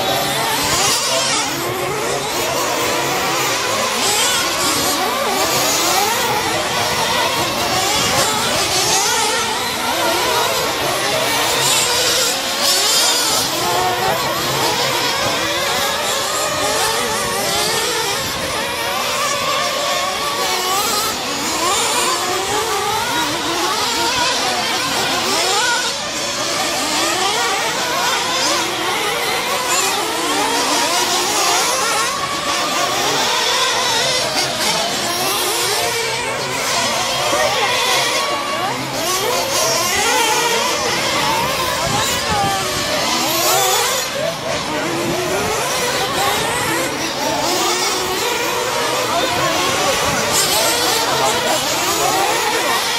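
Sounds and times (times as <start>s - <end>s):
rc truck motors revving: 0.0s - 52.9s.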